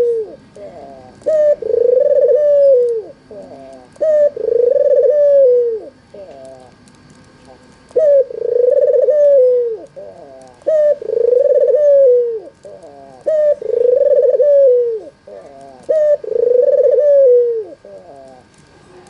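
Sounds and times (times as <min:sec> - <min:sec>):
dove cooing: 0:00.0 - 0:06.7, 0:07.9 - 0:18.6.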